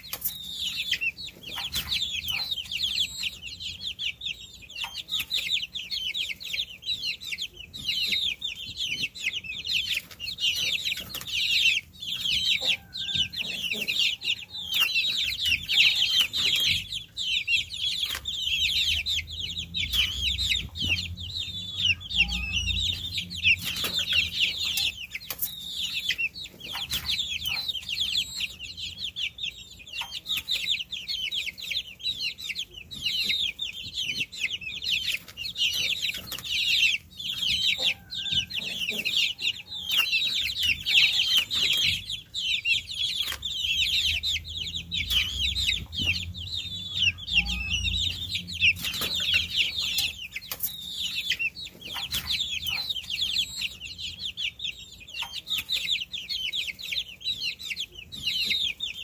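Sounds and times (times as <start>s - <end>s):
baby chicks peeping: 0.0s - 59.0s.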